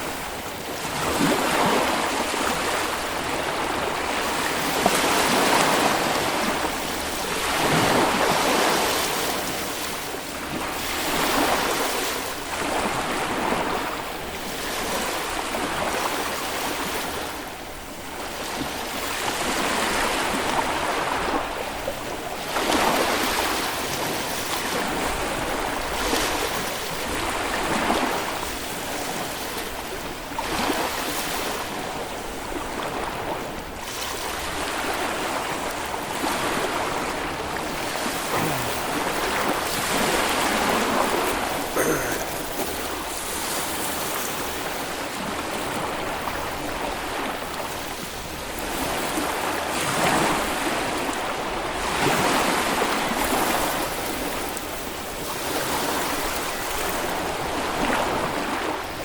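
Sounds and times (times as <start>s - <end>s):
small waves washing up a beach: 0.0s - 59.0s.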